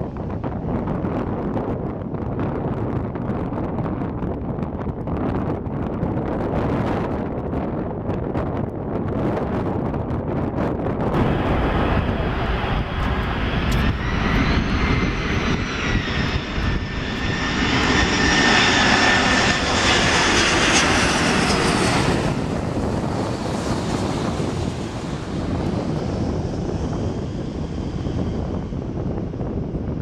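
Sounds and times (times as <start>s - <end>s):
jet engine rushing and whining: 0.0s - 30.0s
wind on microphone: 0.0s - 30.0s.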